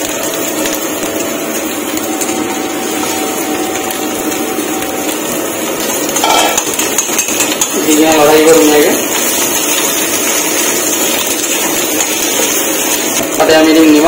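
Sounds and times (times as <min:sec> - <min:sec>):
food frying in hot oil: 0:00.0 - 0:14.0.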